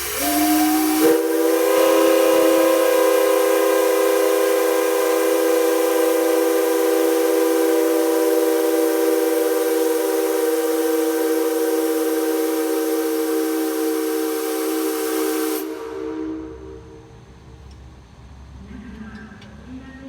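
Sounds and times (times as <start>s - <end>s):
steady multi-tone whistle: 0.0s - 17.0s.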